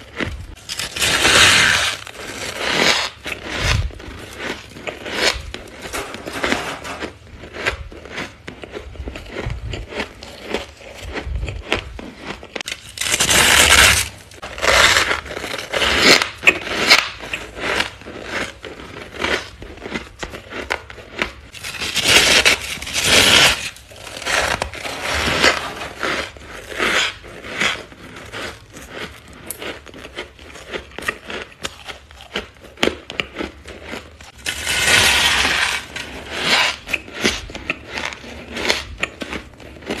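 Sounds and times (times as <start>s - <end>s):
chewing crunchy frost: 0.0s - 40.0s.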